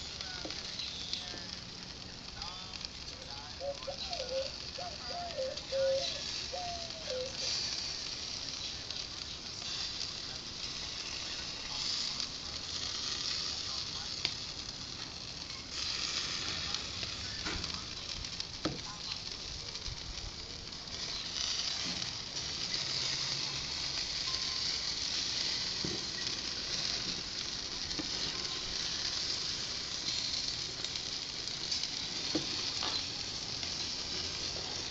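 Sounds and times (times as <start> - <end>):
patties sizzling on grill: 0.0 - 34.9.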